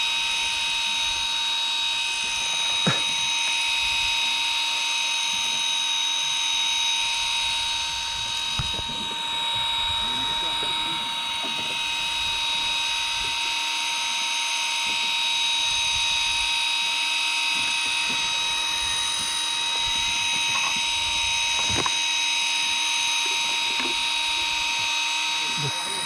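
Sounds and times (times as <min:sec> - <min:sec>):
electric reel motor whine: 0:00.0 - 0:26.0.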